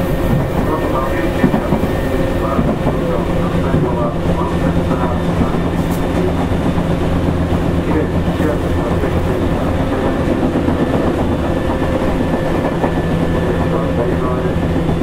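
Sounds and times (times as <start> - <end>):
traction motor hum: 0.0 - 15.0
wheel and rail noise: 0.0 - 15.0.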